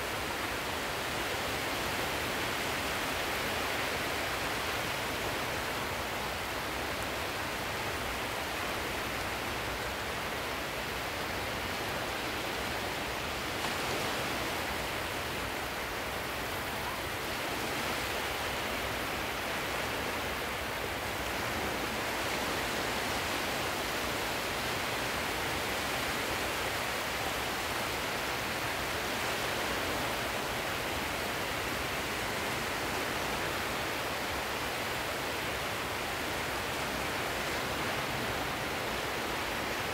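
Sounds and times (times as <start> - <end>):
sea surf rushing: 0.0 - 39.9.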